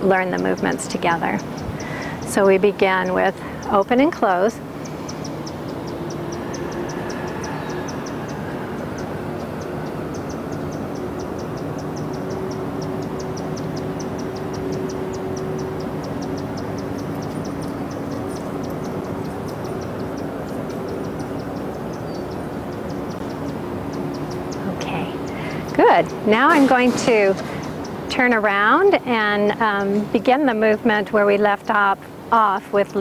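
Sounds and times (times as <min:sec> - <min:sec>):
rapid high-pitched chirping: 0:00.0 - 0:31.9
mechanical drone with low hum: 0:00.0 - 0:33.0.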